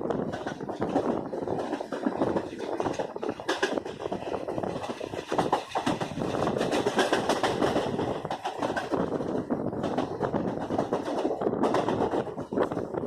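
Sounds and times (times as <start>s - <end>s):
train carriage rattling: 0.0s - 13.0s
train wheels clattering over rails: 0.0s - 13.0s.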